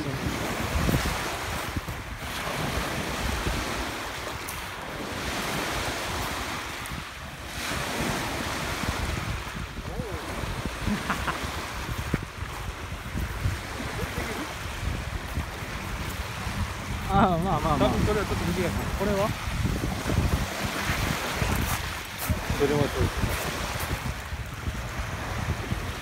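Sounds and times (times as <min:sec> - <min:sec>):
small waves on gravel shore: 0:00.0 - 0:26.0
wind buffeting microphone: 0:00.0 - 0:26.0.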